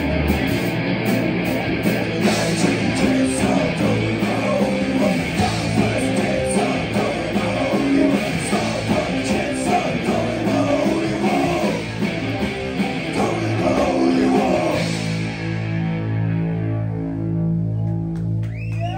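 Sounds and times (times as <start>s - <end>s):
drums and cymbals: 0.0s - 15.9s
distorted electric guitars: 0.0s - 18.9s.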